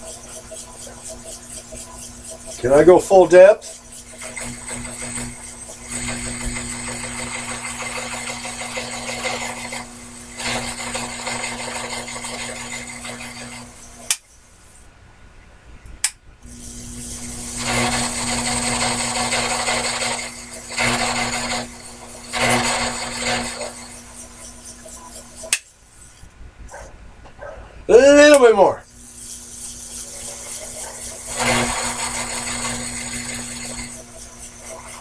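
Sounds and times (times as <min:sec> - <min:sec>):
lathe motor hum: 0:00.0 - 0:14.1, 0:16.5 - 0:25.6, 0:28.2 - 0:35.0
tool cutting hiss: 0:00.0 - 0:14.4, 0:16.5 - 0:26.2, 0:28.2 - 0:35.0.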